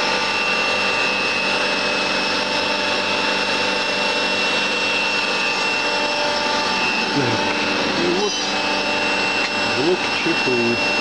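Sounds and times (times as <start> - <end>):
lathe humming and whining: 0.0 - 11.0.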